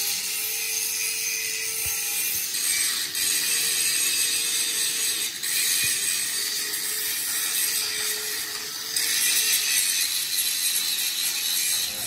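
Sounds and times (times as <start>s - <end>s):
hissing metalworking noise: 0.2s - 12.0s.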